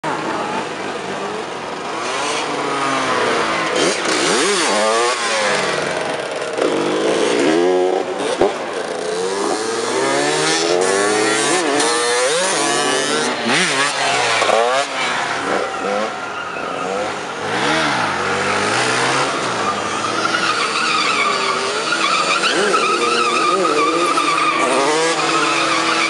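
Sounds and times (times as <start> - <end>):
moped engines revving: 0.0 - 26.0.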